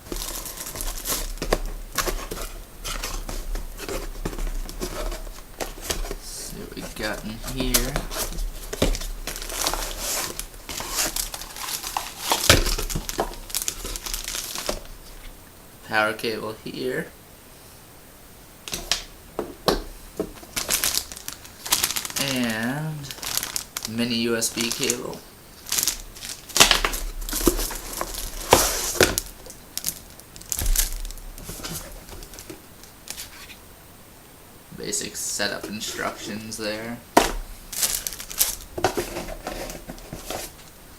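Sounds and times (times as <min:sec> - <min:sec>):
plastic and cardboard crinkling: 0:00.0 - 0:15.5, 0:18.6 - 0:33.7, 0:35.0 - 0:40.9.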